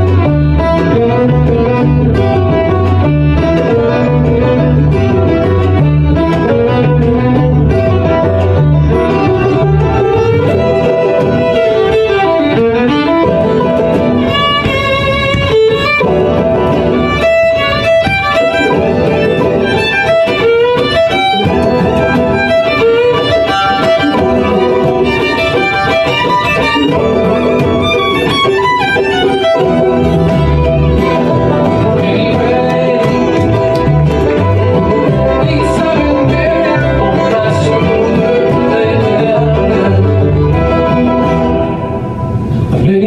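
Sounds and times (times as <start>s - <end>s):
fiddle: 0.0s - 42.1s
bluegrass band playing: 0.0s - 43.0s.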